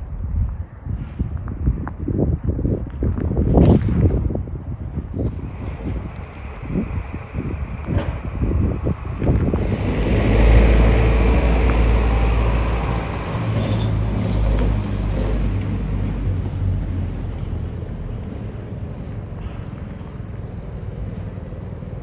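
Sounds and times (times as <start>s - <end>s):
passing motor vehicle rumble: 0.0s - 22.0s.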